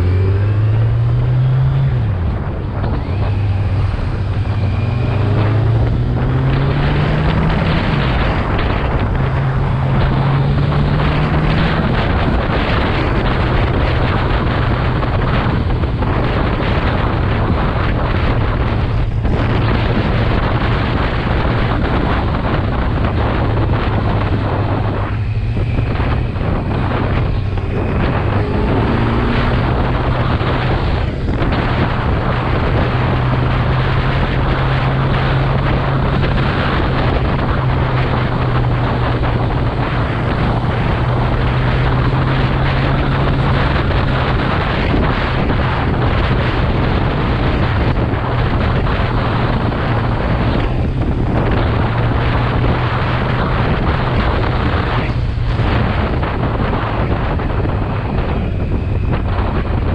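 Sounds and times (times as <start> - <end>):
motorcycle engine cruising: 0.0 - 59.9
wind noise on microphone: 0.0 - 59.9.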